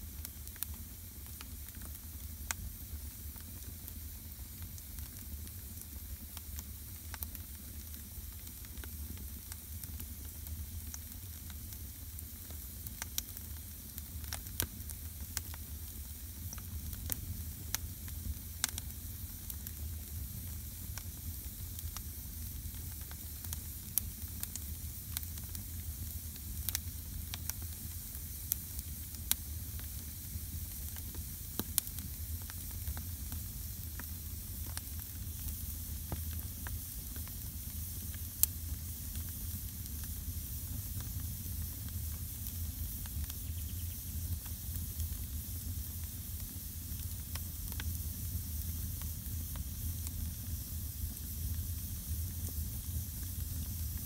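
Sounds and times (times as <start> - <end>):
fire hissing: 0.0 - 54.0
wood fire crackling and popping: 0.0 - 54.0.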